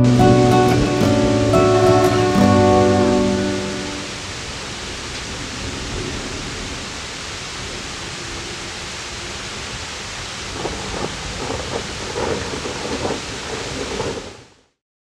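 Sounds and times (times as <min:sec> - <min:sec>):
thunder rumbling: 0:00.0 - 0:14.5
steady rain: 0:00.0 - 0:14.8.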